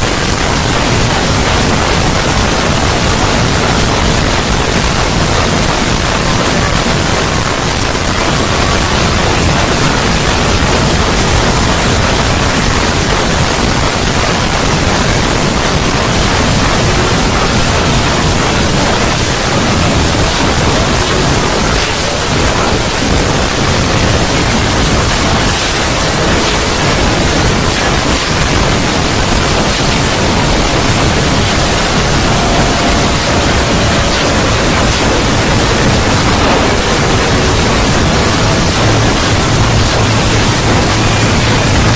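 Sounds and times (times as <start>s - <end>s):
synthetic rushing noise: 0.0s - 41.9s.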